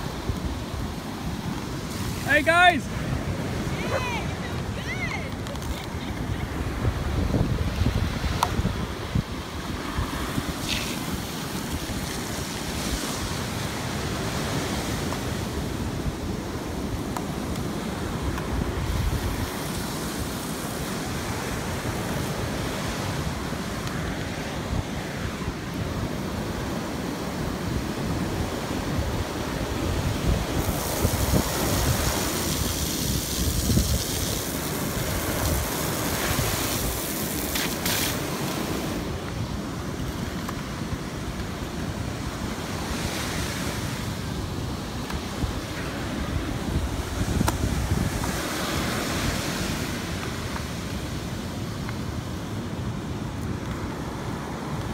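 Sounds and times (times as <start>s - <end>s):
surf hiss: 0.0s - 54.9s
wind buffeting microphone: 2.9s - 15.0s, 15.6s - 23.7s, 24.5s - 51.4s.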